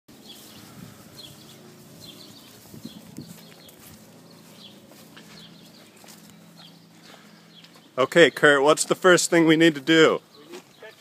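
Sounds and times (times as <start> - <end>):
low steady hum: 0.1 - 10.3.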